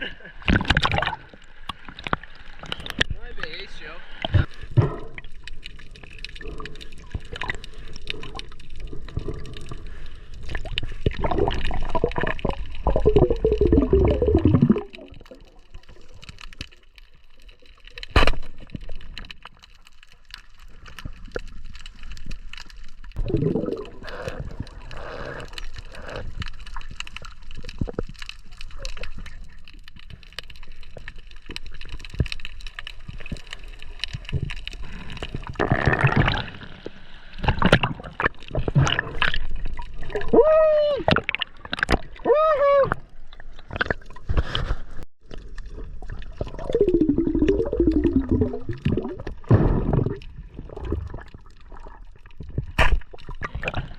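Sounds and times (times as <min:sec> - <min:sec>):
water sloshing and gurgling: 0:00.0 - 0:53.9.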